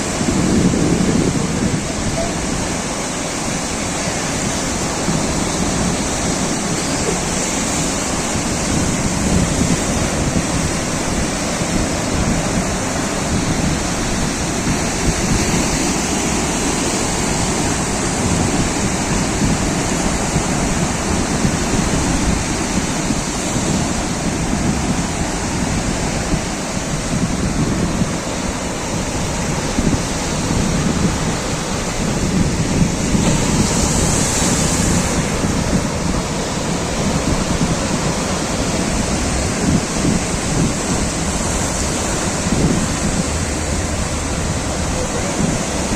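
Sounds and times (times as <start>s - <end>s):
sea waves and surf: 0.0s - 45.9s.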